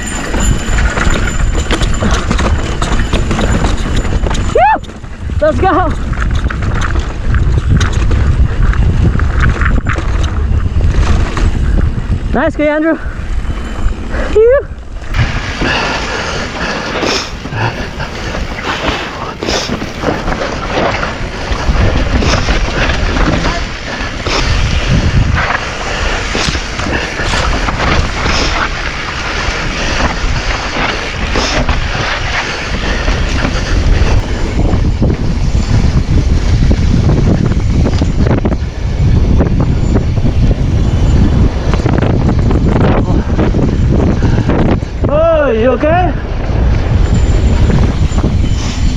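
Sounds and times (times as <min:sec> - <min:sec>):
tyres rolling on dirt and rock: 0:00.0 - 0:12.7, 0:15.1 - 0:48.9
bike rattling and knocking: 0:00.0 - 0:48.9
wind rushing over microphone: 0:00.0 - 0:48.9.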